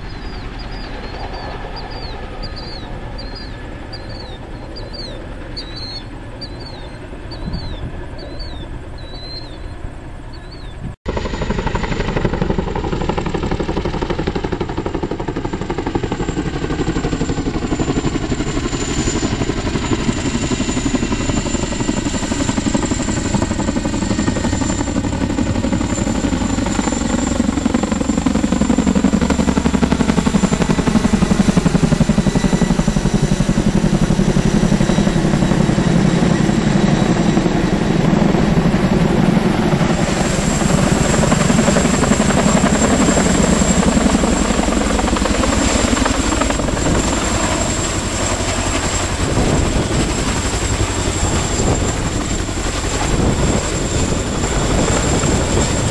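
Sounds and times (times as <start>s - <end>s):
turbine whine: 0.0s - 12.9s, 20.7s - 55.9s
helicopter rotor chop: 0.0s - 55.9s.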